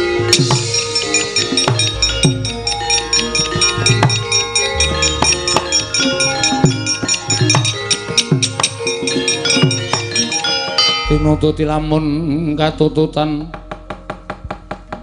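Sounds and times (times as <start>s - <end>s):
hand drum strokes: 0.0s - 15.0s
ringing bronze metallophones: 0.0s - 15.0s.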